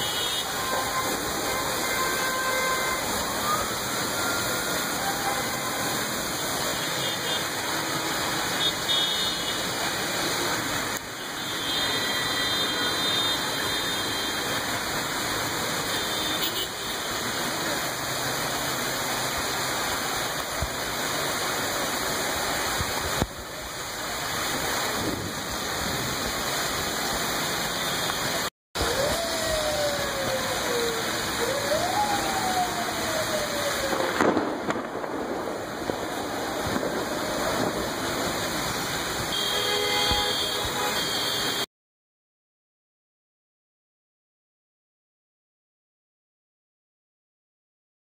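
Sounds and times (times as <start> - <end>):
faint street traffic: 0.0 - 41.7
heavy rain pouring: 0.0 - 41.7.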